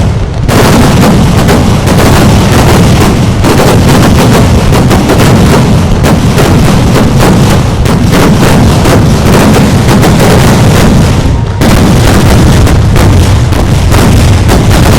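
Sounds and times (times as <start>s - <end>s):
fireworks barrage: 0.0s - 14.9s.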